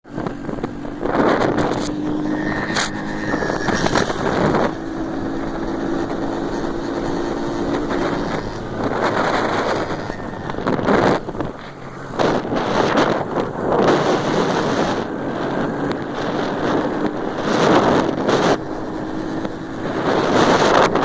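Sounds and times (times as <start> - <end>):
motorcycle engines running: 0.0 - 21.0
wind buffeting microphone: 0.0 - 21.0
motorcycles rushing past: 0.1 - 21.0.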